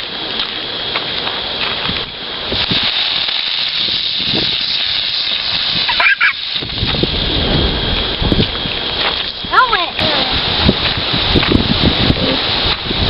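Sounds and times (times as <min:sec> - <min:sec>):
fireworks hissing: 0:00.0 - 0:13.0.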